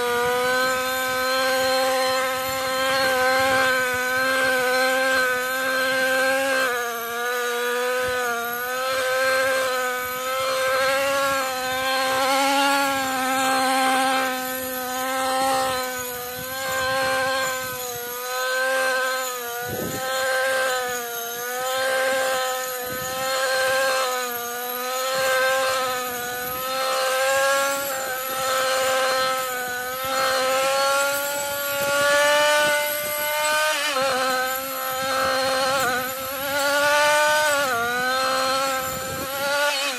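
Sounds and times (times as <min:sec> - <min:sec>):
brushcutter engine cutting: 0:00.0 - 0:39.9.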